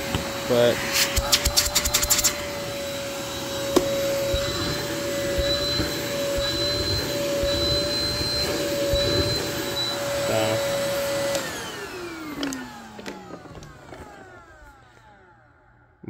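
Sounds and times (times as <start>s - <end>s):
vacuum cleaner motor whine: 0.0s - 16.0s.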